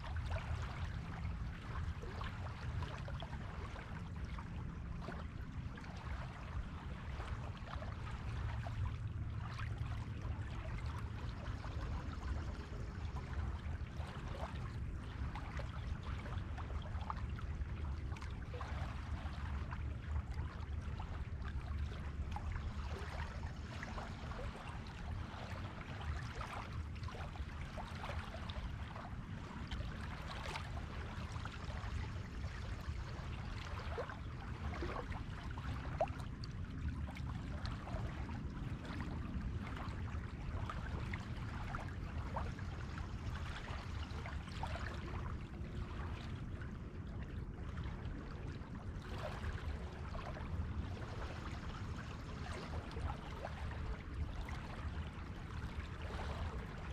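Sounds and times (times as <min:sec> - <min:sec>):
sea water lapping at shore: 0:00.0 - 0:56.9.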